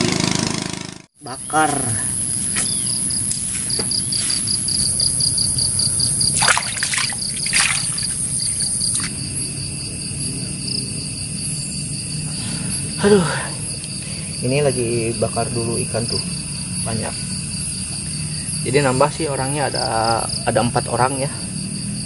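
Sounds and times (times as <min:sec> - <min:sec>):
insects chirping trill: 0:01.2 - 0:22.0.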